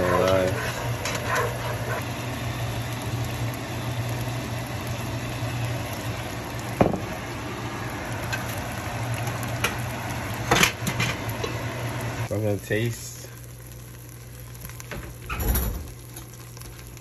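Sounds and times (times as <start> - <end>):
pot simmering: 0.0 - 17.0.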